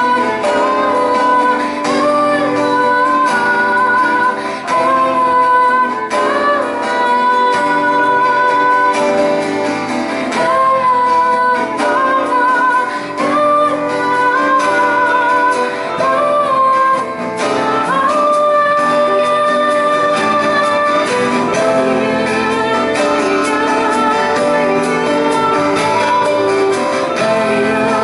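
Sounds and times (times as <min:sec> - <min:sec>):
live band with acoustic guitar: 0:00.0 - 0:28.0
woman singing: 0:00.0 - 0:28.0.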